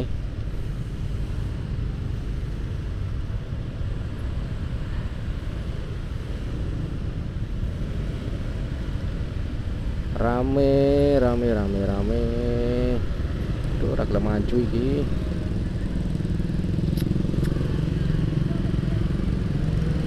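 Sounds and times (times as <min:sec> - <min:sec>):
traffic engines rumbling: 0:00.0 - 0:20.0.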